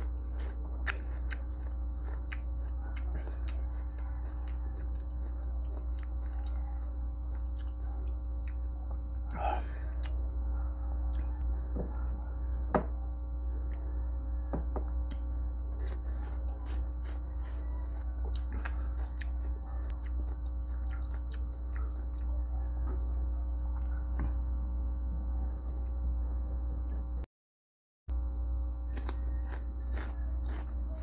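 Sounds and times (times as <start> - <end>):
biting and chewing fruit: 0.0 - 14.0, 14.7 - 24.6, 28.9 - 31.0
steady low hum: 0.0 - 27.3, 28.1 - 31.0.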